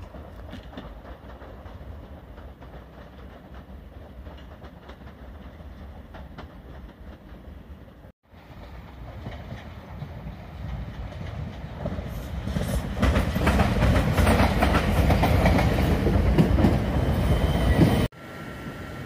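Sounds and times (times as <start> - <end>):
train wheels clattering over joints: 0.0 - 7.8, 8.5 - 17.1.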